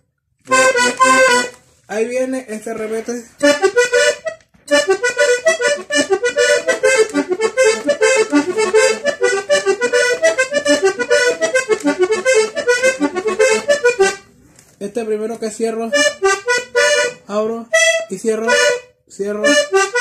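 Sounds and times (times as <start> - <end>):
button accordion melody: 0.4 - 1.7, 2.6 - 14.3, 15.9 - 20.0.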